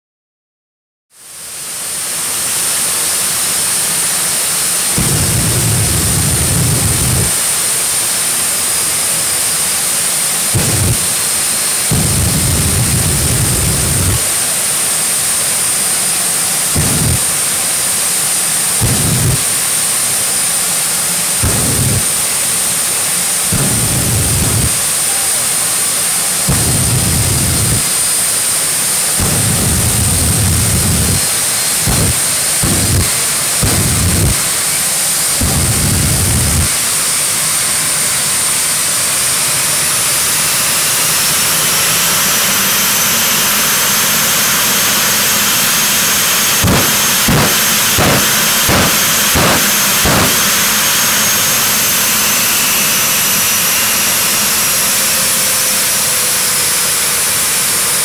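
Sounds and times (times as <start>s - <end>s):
jet engine high whine: 1.2s - 58.0s
deep afterburner bursts: 4.8s - 7.8s, 10.3s - 15.8s, 16.6s - 37.3s, 39.4s - 57.6s.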